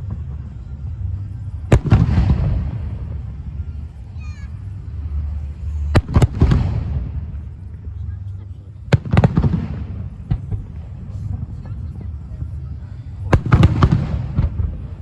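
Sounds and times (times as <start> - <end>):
fireworks bursting: 0.0 - 7.6, 8.9 - 15.0
continuous low rumble: 0.0 - 15.0.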